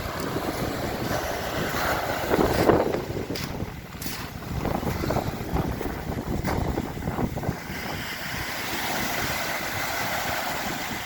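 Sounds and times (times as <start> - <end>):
sea waves washing onto shore: 0.0 - 11.0
wind gusting against microphone: 0.0 - 11.0.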